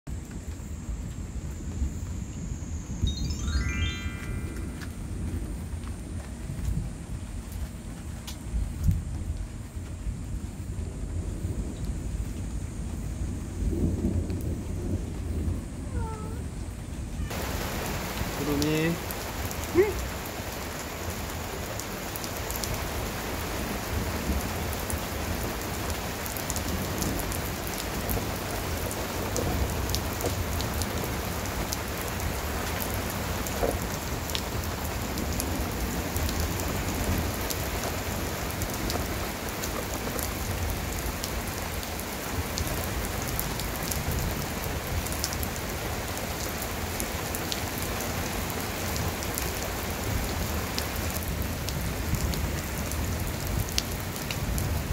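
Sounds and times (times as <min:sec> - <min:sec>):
raindrops ticking on hard surfaces: 0:00.1 - 0:02.4, 0:03.4 - 0:54.9
heavy rain hissing: 0:00.1 - 0:54.9.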